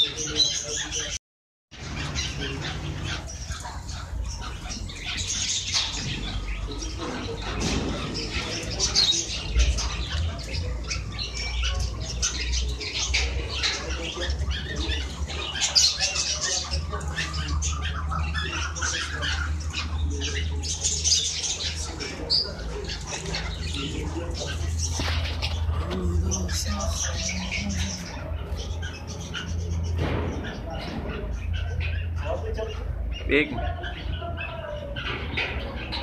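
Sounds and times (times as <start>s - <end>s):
birds chirping and squawking: 0.0s - 36.0s.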